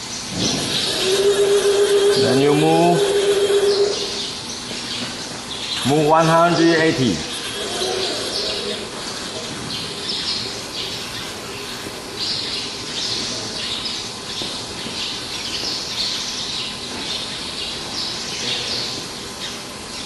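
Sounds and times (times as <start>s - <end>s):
small birds chirping: 0.0s - 20.0s
steady background hiss: 0.0s - 20.0s.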